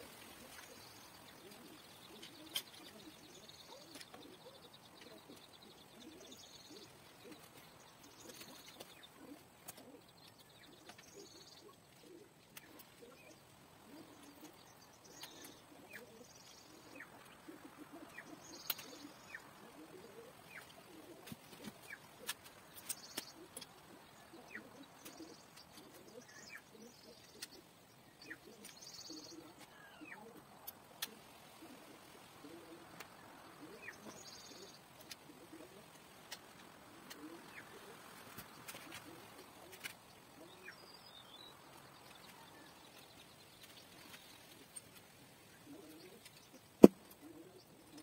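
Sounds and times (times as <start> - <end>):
doves cooing: 0.0 - 48.0
small birds chirping: 0.0 - 48.0.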